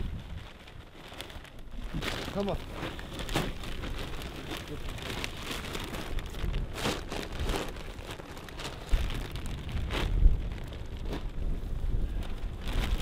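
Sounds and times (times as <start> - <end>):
plastic sacks rustling: 0.0 - 13.0
wind rumble on microphone: 0.0 - 13.0.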